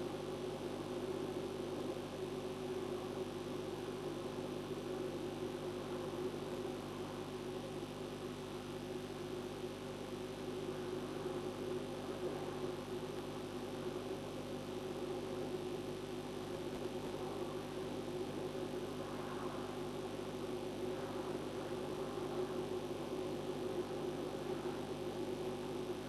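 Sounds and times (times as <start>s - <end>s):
steady hum with constant tones: 0.0s - 26.0s.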